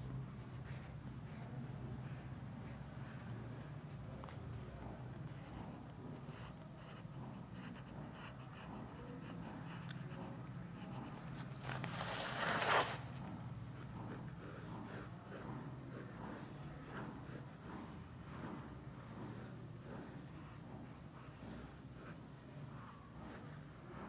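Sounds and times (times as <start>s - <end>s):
pencil scratching on paper: 0.4s - 1.8s, 4.2s - 24.0s.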